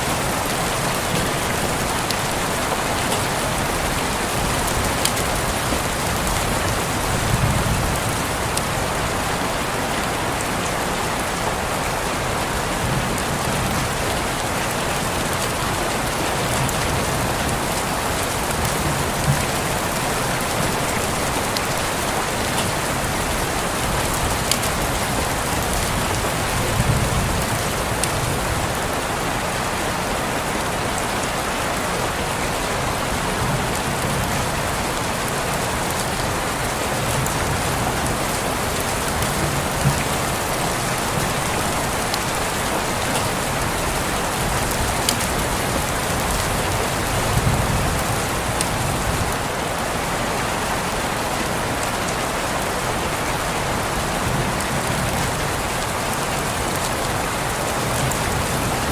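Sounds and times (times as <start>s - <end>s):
rain on a window: 0.0s - 58.9s.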